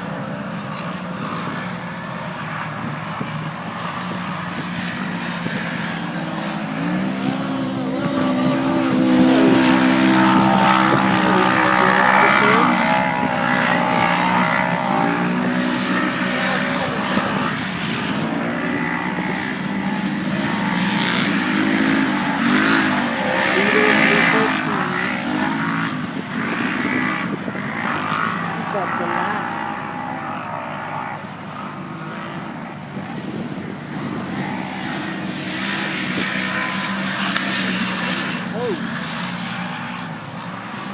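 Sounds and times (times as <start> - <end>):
race vehicle engines revving: 0.0 - 40.9.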